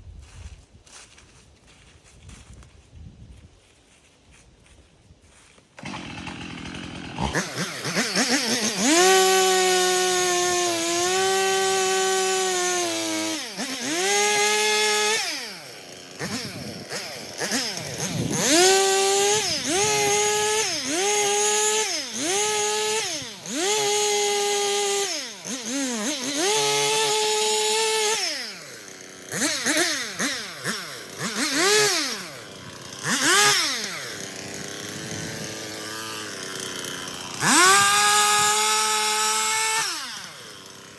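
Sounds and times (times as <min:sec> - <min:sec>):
chainsaw revving: 0:05.8 - 0:40.9.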